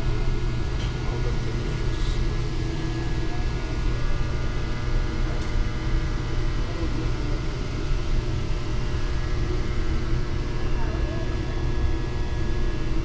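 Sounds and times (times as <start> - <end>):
machinery rumble and hum: 0.0 - 13.0.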